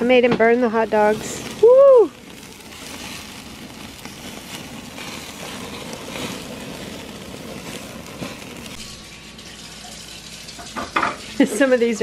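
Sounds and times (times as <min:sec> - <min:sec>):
fire crackling: 0:00.0 - 0:12.0
patties sizzling on a grill: 0:00.0 - 0:12.0.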